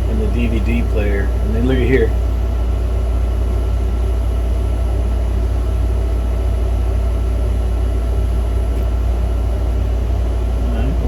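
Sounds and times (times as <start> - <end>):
computer cooling fans humming: 0.0 - 11.0.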